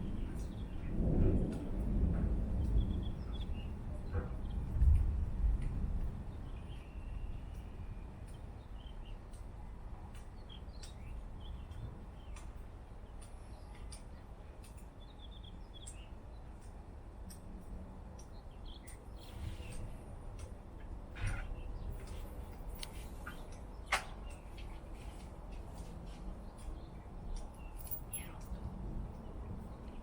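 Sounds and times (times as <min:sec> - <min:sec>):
low rumbling background noise: 0:00.0 - 0:30.0.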